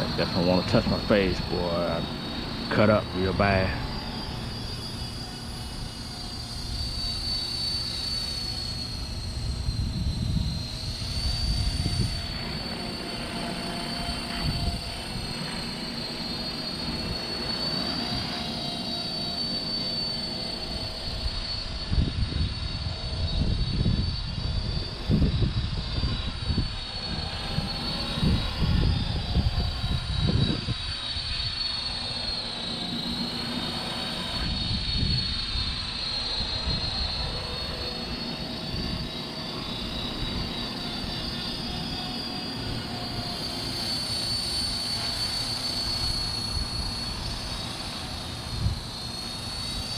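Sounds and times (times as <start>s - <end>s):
wind buffeting microphone: 0.0s - 18.4s, 20.5s - 49.9s
rc helicopter rotor whine: 0.0s - 49.9s.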